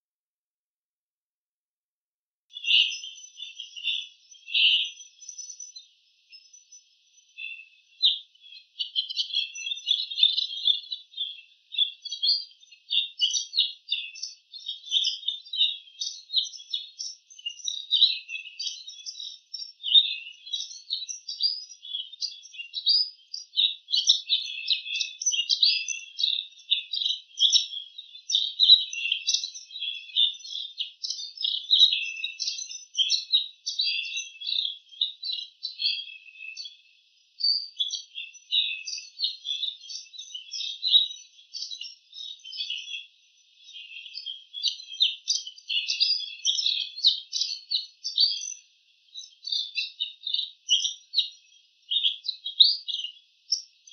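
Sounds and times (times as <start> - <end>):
bird singing high chirps: 2.5 - 53.9.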